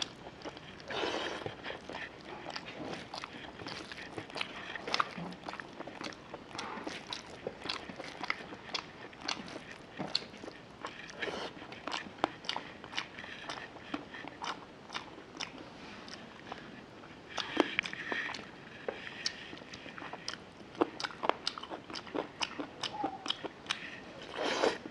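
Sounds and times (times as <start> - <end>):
wet chewing and lip smacking: 0.0 - 24.9.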